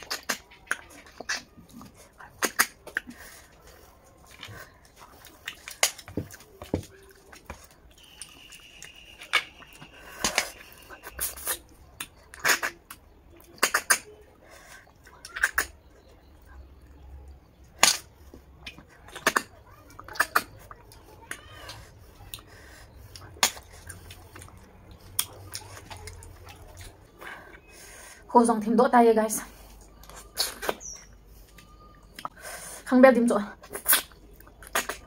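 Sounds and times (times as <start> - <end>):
clicks and slurps eating snails: 0.0 - 28.3, 29.5 - 32.9, 33.5 - 35.0.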